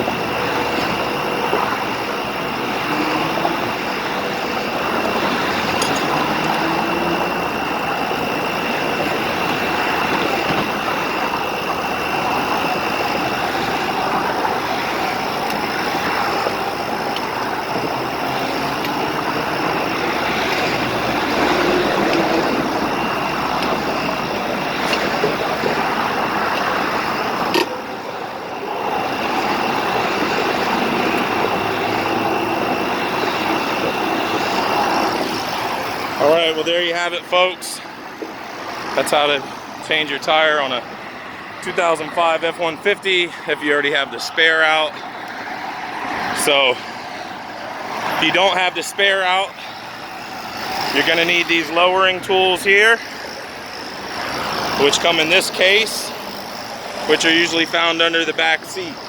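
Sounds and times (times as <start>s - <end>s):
high thin whine: 0.0s - 59.0s
highway traffic passing: 0.0s - 59.0s.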